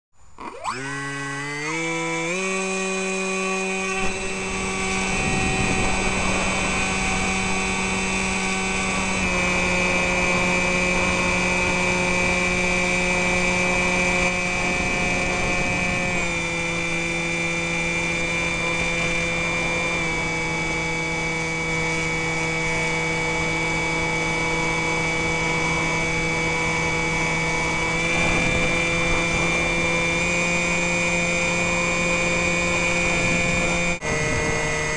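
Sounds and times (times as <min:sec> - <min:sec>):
electric motor and propeller whining: 0:00.2 - 0:34.9.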